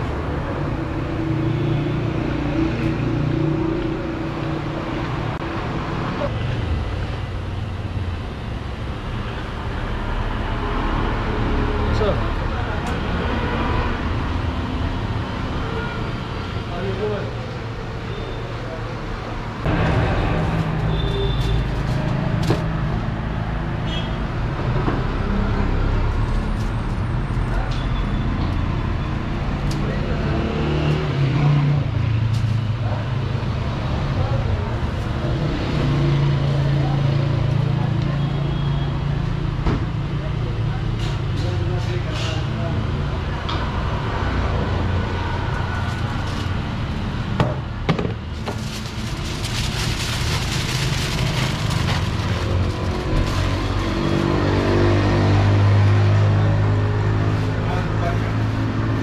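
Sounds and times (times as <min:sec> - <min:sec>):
low rumble of road traffic: 0:00.0 - 0:59.0.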